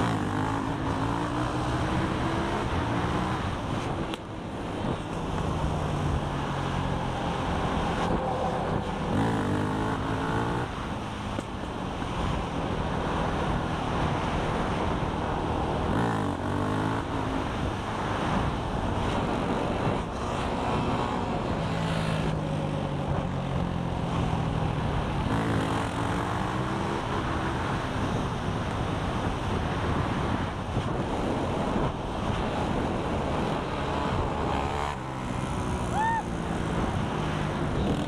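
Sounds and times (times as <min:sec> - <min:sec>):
quad engine running: 0:00.0 - 0:28.3, 0:32.3 - 0:38.0
wind noise on microphone: 0:00.0 - 0:38.0.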